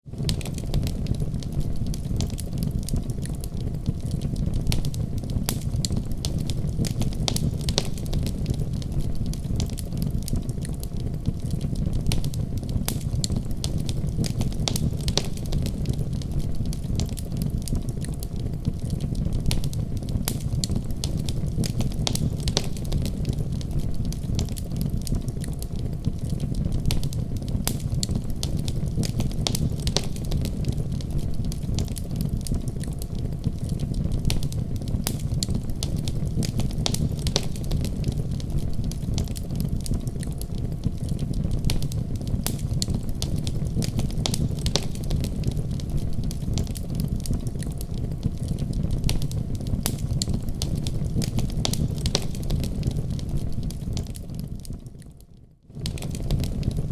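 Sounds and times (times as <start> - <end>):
fire crackling in fireplace: 0.0 - 56.9.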